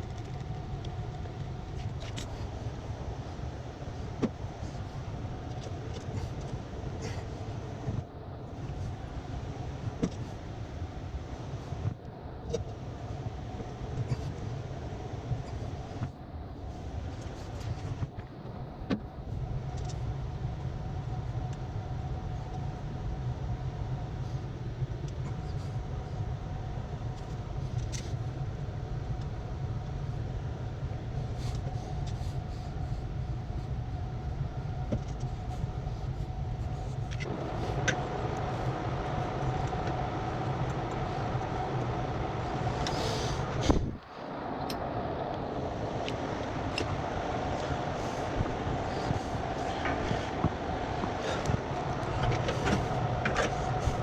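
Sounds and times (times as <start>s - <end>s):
mechanical running hum: 0.0s - 54.0s.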